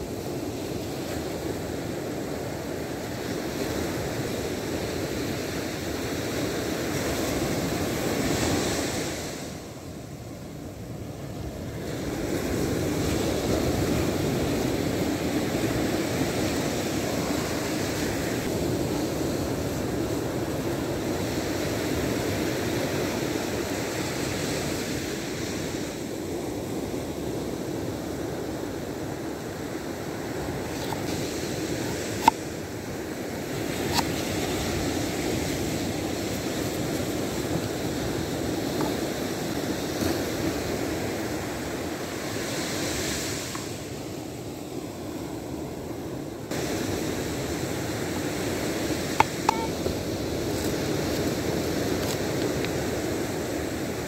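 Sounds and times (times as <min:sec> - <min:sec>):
ocean surf washing onto beach: 0:00.0 - 0:54.0.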